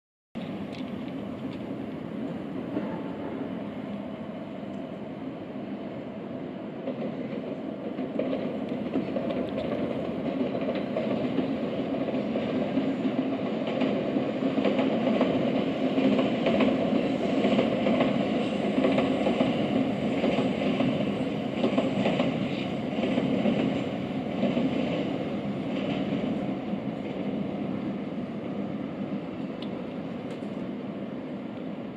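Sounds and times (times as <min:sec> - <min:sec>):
electric trains rumbling: 0:00.4 - 0:31.9.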